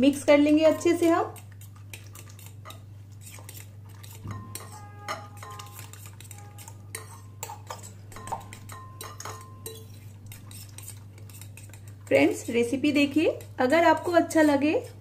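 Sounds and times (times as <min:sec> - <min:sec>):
fork whisking in bowl: 0:00.0 - 0:15.0.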